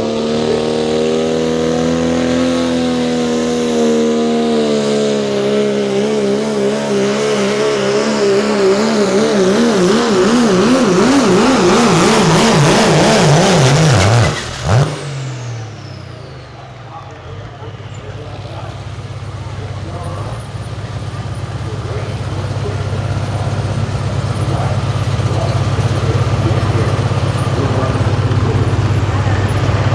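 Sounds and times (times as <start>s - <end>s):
diesel truck engine under load: 0.0s - 29.9s.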